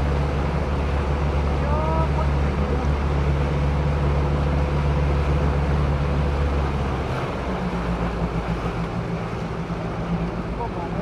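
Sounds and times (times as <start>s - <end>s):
boat motor running: 0.0s - 11.0s
water noise: 0.0s - 11.0s
wind: 0.0s - 11.0s.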